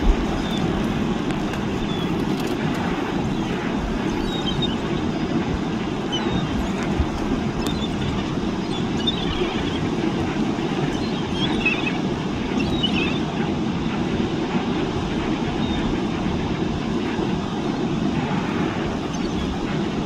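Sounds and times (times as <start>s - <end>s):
ocean surf roar: 0.0s - 20.0s
wind on microphone: 0.0s - 20.0s.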